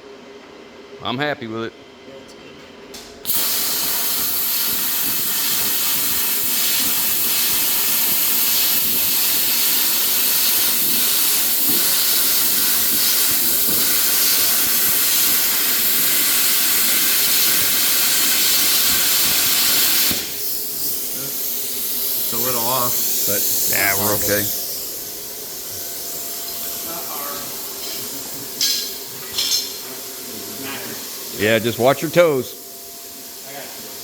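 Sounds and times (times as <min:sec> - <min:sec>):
plasma cutter hissing: 0:03.2 - 0:34.0.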